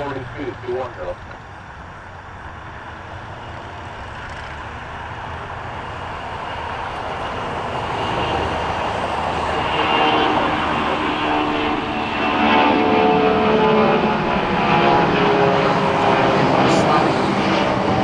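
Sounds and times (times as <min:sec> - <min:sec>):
whining engine tones: 0:00.0 - 0:01.5, 0:04.7 - 0:18.0
jet engines roaring: 0:00.0 - 0:18.0.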